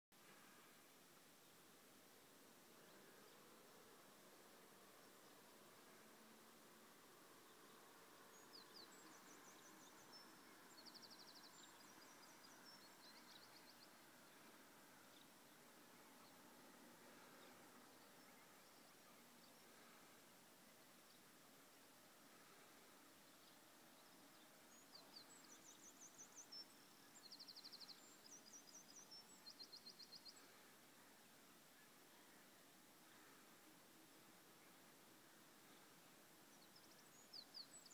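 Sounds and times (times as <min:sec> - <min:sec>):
faint steady hiss: 0:00.1 - 0:37.9
songbird chirps and trills: 0:00.2 - 0:37.9.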